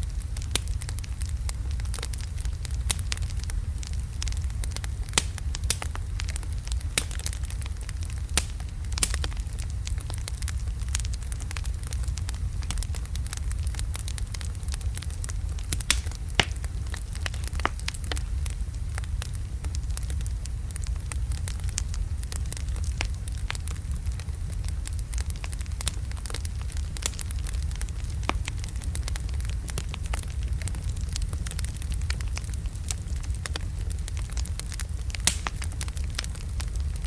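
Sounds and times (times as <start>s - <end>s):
fire rumbling: 0.0s - 37.0s
logs crackling and popping: 0.0s - 37.0s.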